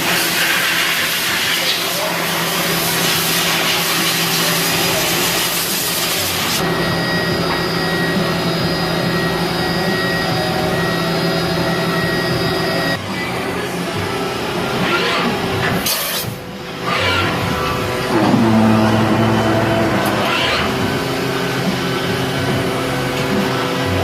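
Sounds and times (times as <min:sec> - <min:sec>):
milling machine whine: 0:00.0 - 0:24.0.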